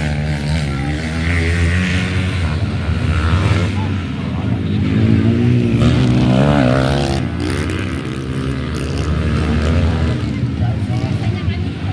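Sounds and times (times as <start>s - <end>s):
motocross bike engines revving: 0.0s - 11.9s.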